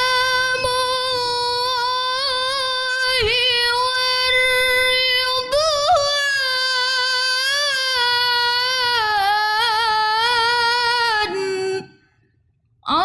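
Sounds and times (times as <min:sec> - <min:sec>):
woman singing: 0:00.0 - 0:12.1.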